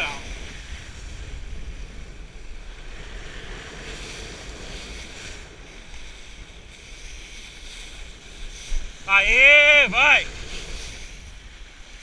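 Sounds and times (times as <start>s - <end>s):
board planing through water: 0.0s - 12.0s
wind buffeting microphone: 0.0s - 12.0s.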